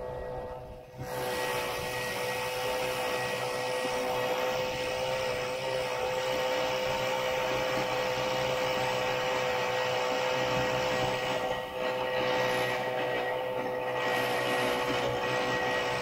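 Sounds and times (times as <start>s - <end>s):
snowmobile engine droning: 0.0s - 16.0s.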